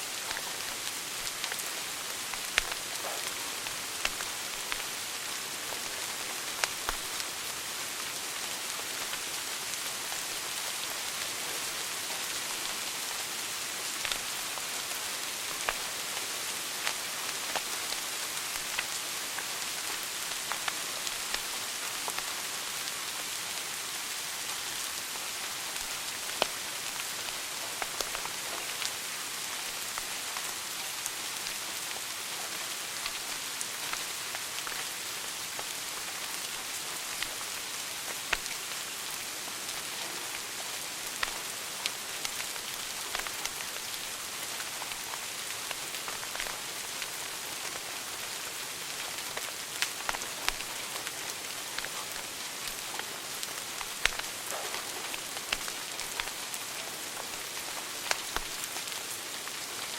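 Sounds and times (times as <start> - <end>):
wood fire crackling: 0.1 - 10.4, 13.9 - 22.8, 24.6 - 59.9.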